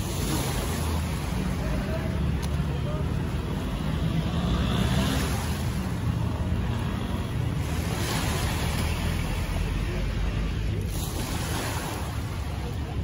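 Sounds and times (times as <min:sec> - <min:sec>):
sea water: 0:00.0 - 0:13.0
wind: 0:00.0 - 0:13.0.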